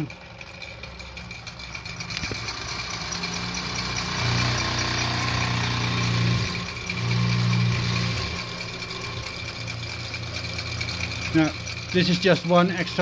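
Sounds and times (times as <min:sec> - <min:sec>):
toy steam engine running: 0:00.0 - 0:13.0.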